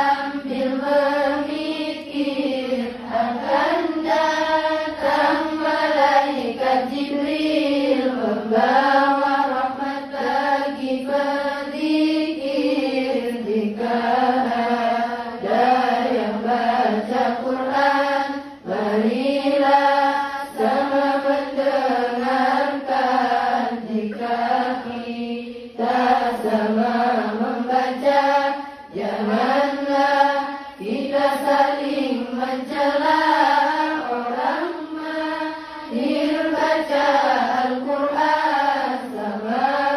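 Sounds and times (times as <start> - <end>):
girls singing devotional chant: 0.0 - 39.9.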